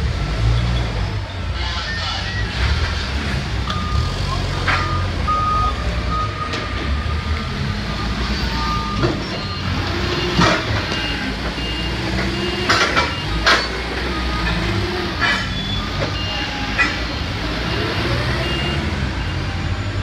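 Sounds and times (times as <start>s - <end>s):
forklift engine running: 0.0s - 20.0s
warning beeps: 1.3s - 2.8s, 3.7s - 19.7s.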